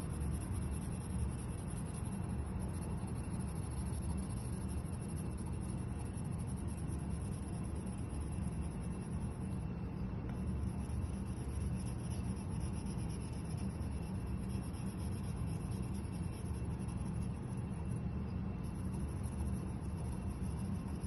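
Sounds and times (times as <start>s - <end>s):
pencil scribbling on paper: 0.0s - 9.7s, 10.3s - 21.0s.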